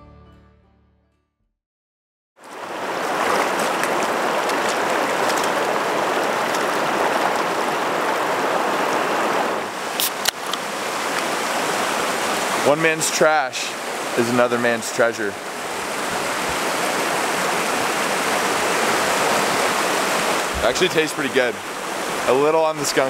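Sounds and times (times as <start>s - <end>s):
river water rushing: 2.4s - 23.0s.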